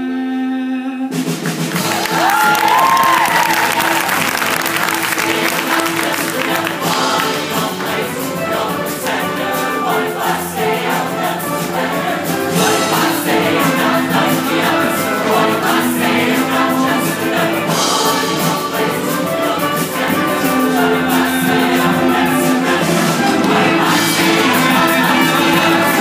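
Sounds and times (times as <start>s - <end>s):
choir singing sustained notes: 0.0s - 26.0s.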